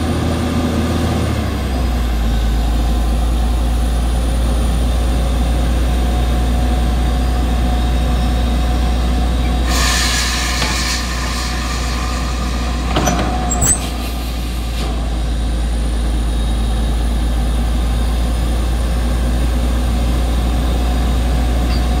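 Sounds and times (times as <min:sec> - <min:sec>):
drilling rig engine drone: 0:00.0 - 0:22.0.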